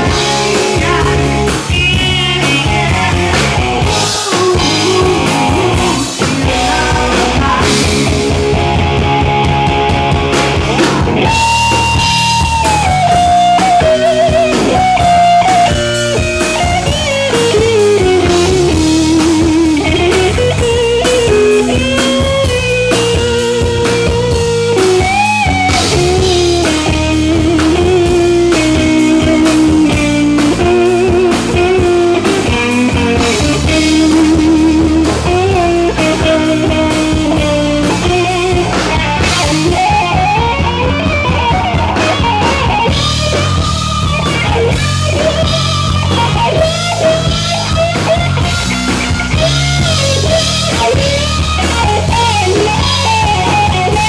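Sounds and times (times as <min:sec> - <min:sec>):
bass guitar: 0:00.0 - 0:54.0
drum kit: 0:00.0 - 0:54.0
lead guitar solo: 0:00.0 - 0:54.0.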